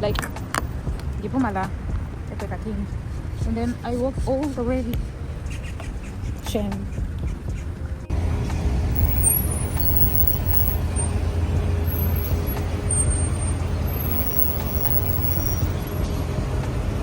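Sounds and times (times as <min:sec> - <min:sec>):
low rumble of outdoor noise: 0:00.0 - 0:17.0.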